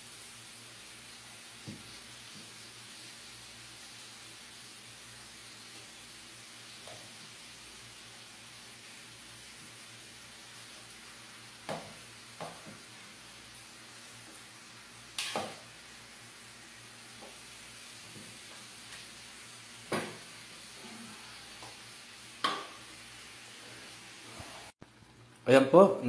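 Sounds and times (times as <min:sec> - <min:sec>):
fish sizzling in a pan: 0:00.0 - 0:25.5.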